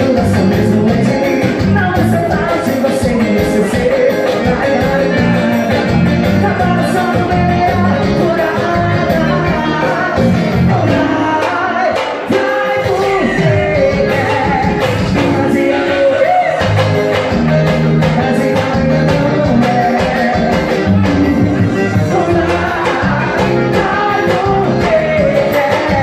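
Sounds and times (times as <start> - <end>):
repeating bass line: 0.0 - 11.4, 12.3 - 26.0
lead vocal singing: 0.0 - 26.0.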